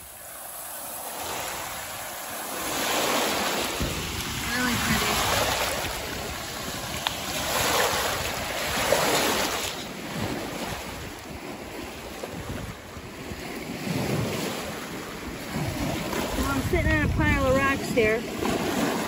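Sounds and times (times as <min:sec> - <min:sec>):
waves washing over rocks: 0:00.0 - 0:19.0
wind on microphone: 0:01.2 - 0:19.0.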